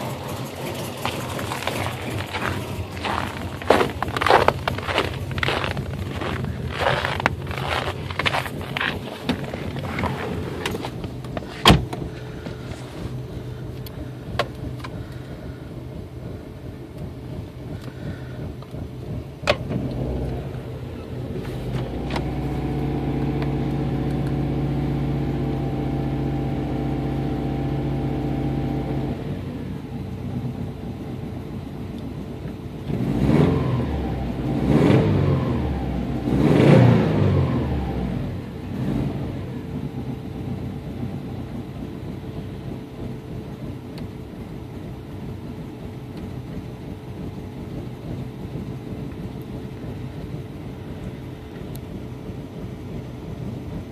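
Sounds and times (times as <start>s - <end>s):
car engine rough idle and revving: 0.0s - 53.9s.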